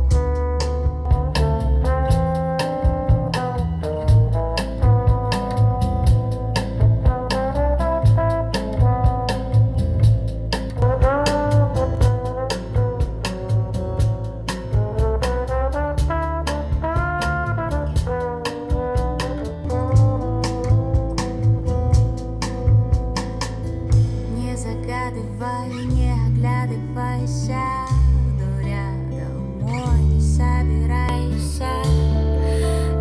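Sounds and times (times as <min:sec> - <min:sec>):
music over loudspeakers: 0:00.0 - 0:33.0.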